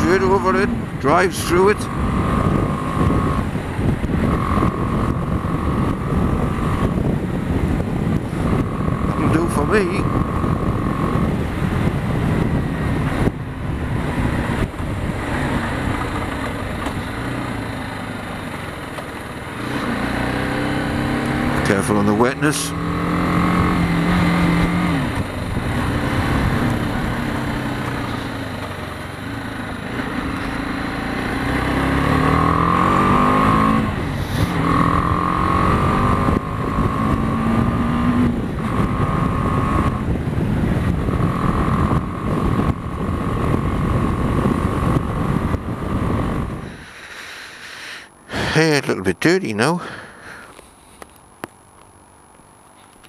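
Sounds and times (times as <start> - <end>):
motorcycle engine running: 0.0 - 48.7
wind and road rumble: 0.0 - 53.0.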